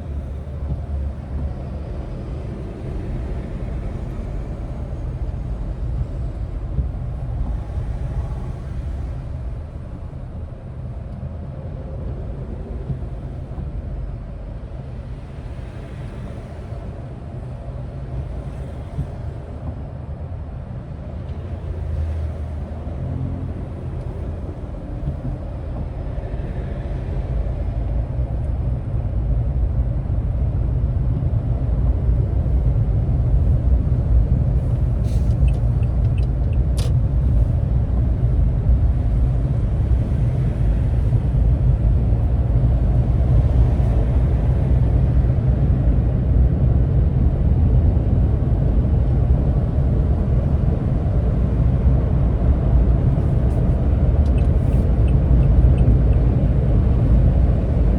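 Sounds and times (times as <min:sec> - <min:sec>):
vehicle engine and road rumble: 0:00.0 - 0:57.9.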